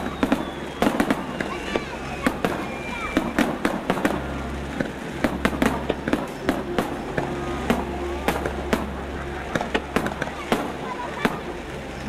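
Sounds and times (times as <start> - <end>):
steady low hum: 1.9 - 12.0.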